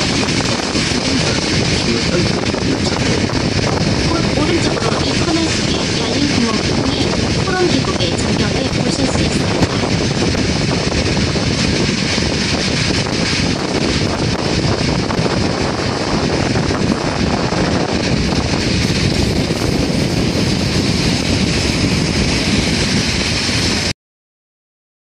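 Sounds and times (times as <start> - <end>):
train rumbling from inside: 0.0 - 23.9.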